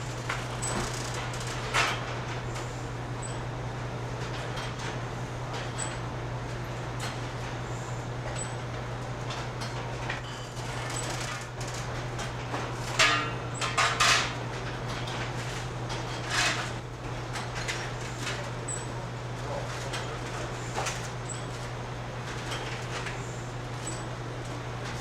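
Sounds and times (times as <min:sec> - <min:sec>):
conveyor motor hum: 0:00.0 - 0:25.0.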